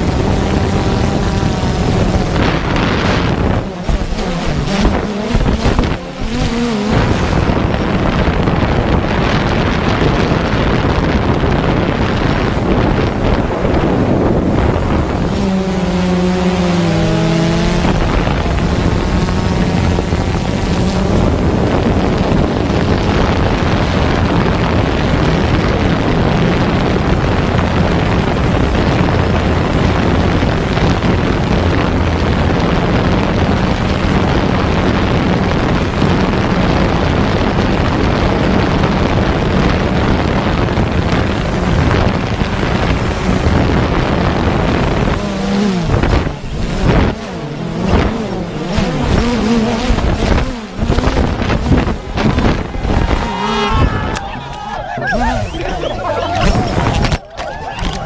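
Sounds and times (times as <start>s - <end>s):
drone motors and propellers: 0.0s - 58.0s
wind rushing over microphone: 0.0s - 58.0s.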